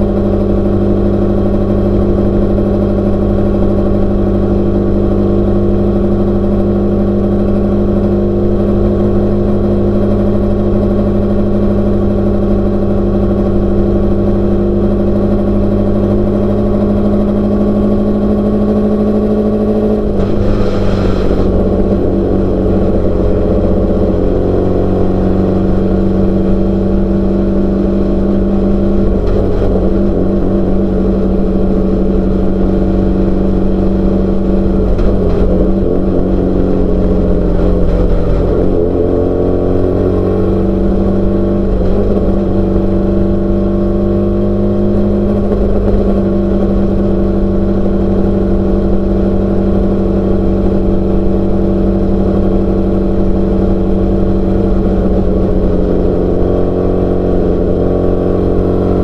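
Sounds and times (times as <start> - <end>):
race car engine running: 0.0 - 59.0.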